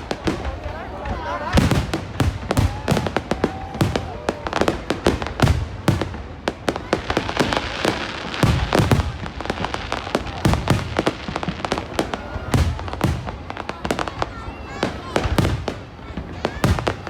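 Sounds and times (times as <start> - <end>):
firework bangs and crackles: 0.0 - 17.0
heavy firework booms: 0.0 - 17.0.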